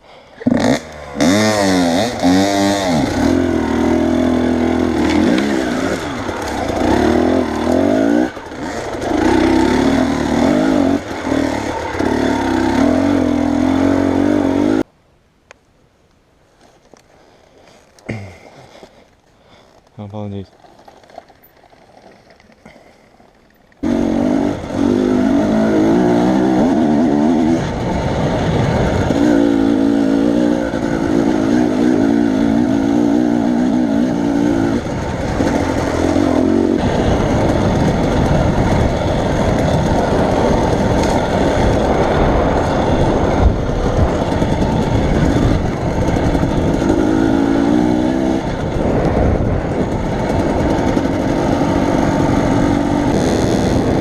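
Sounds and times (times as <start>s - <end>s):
vehicle engine running: 0.4s - 14.8s, 21.0s - 54.0s.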